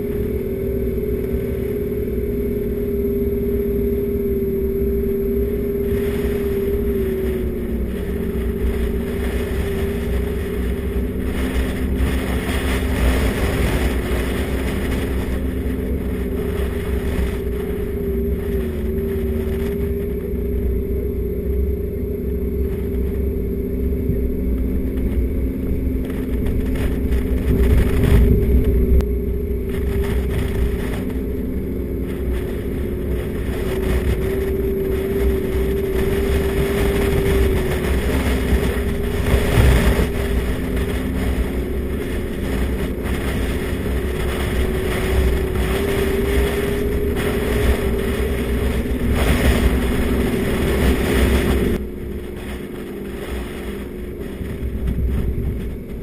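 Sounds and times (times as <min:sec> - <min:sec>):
tyres rumbling on rough track: 0:00.0 - 0:56.0
vehicle engine hum: 0:00.0 - 0:56.0.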